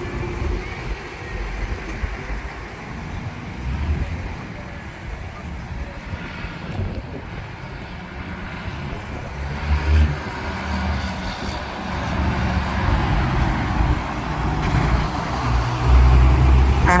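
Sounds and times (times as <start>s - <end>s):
heavy truck engine driving past: 0.0s - 17.0s.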